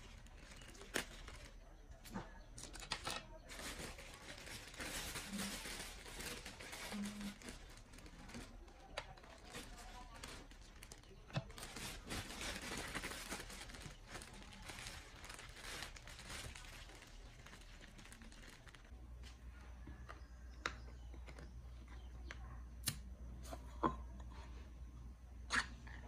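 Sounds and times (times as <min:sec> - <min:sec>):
rustling and crinkling: 0:00.0 - 0:22.5.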